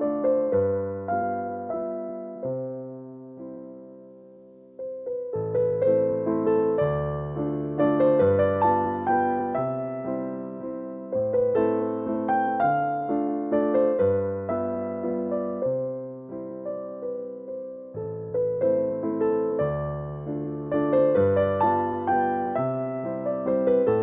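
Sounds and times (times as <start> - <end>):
piano chords and melody: 0.0 - 24.0.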